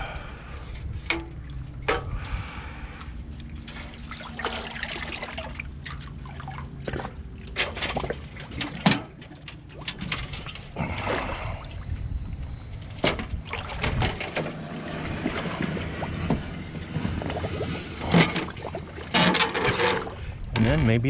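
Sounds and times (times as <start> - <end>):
water splashing and trickling: 0.4 - 20.8.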